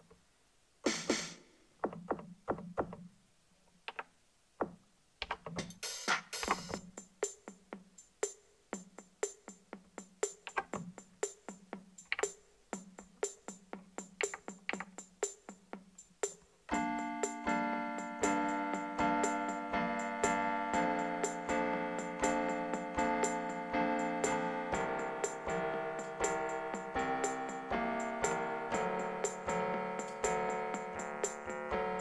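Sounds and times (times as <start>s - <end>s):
electronic drum beat: 0.9s - 3.0s, 5.4s - 32.0s.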